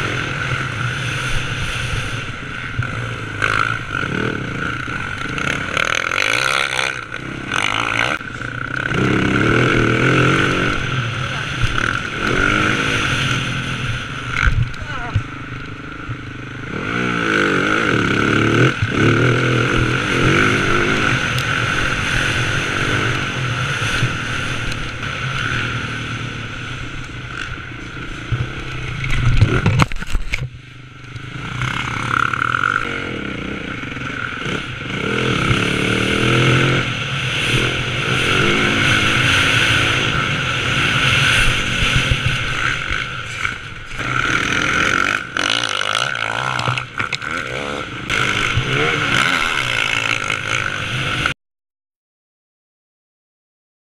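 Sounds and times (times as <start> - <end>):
dirt bike engine revving: 0.0 - 29.9, 31.2 - 51.4.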